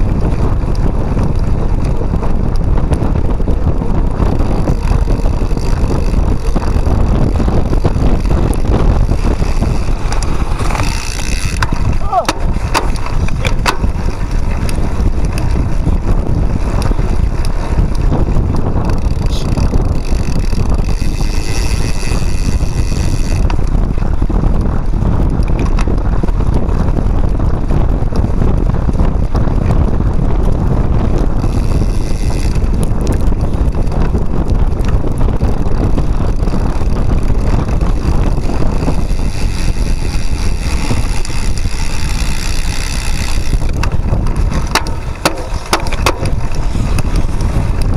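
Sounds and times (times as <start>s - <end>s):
bike rattles and clicks: 0.0s - 47.9s
bike tyre noise: 0.0s - 47.9s
wind buffeting microphone: 0.0s - 47.9s.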